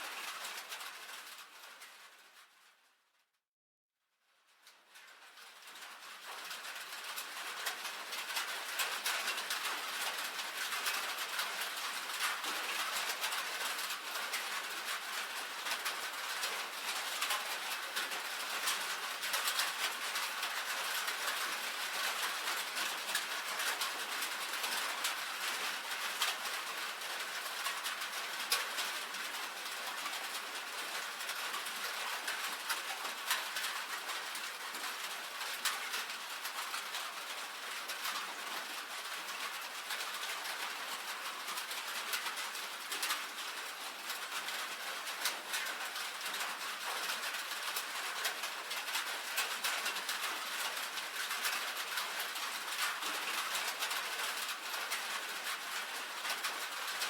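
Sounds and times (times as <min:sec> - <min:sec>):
rain on a tin roof: 0:00.0 - 0:03.3, 0:04.1 - 0:57.0.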